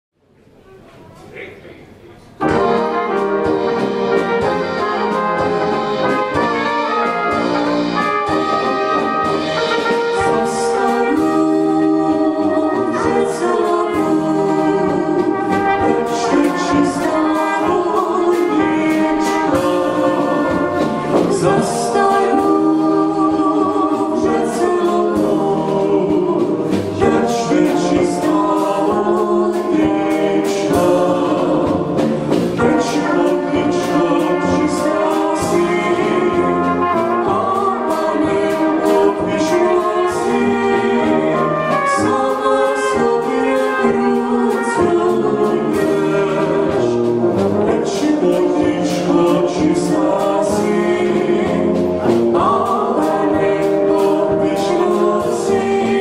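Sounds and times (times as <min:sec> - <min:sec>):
brass band playing folk tune: 0:00.4 - 0:56.0
man and woman singing: 0:09.8 - 0:56.0.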